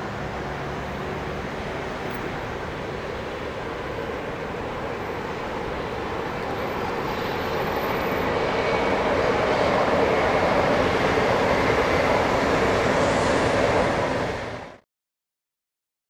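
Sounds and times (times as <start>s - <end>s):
train passing at speed: 0.0s - 14.8s.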